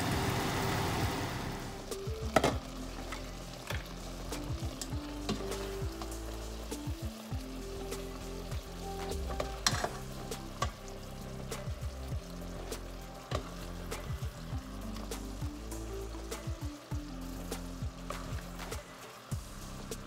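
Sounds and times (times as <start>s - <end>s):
okra sizzling in a wok: 0.0s - 20.0s.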